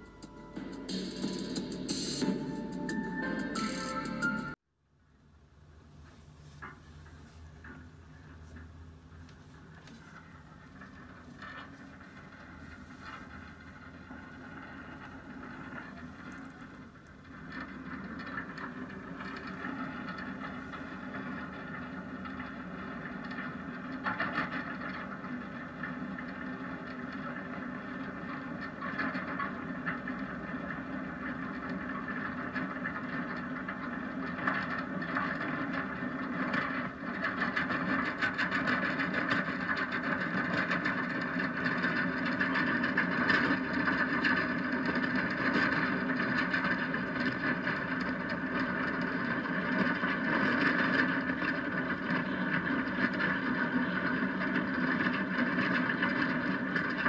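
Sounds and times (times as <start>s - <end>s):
wheels rumbling on asphalt: 5.9s - 57.0s.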